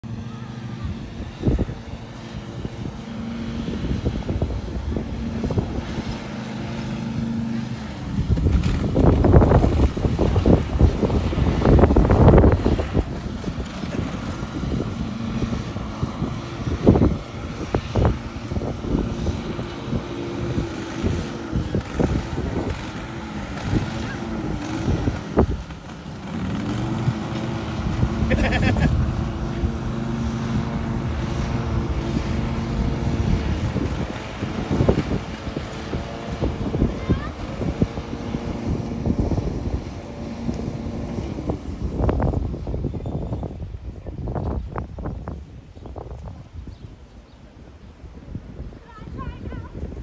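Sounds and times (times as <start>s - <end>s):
riding lawn mower engine running: 0.0s - 50.0s
wind buffeting the microphone: 0.1s - 50.0s.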